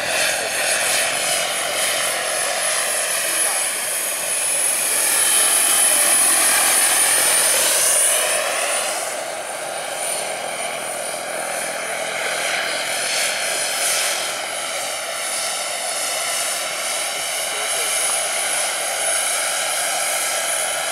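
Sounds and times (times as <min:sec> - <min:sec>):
helicopter rotor noise: 0:00.0 - 0:20.9
high turbine whine: 0:00.0 - 0:20.9.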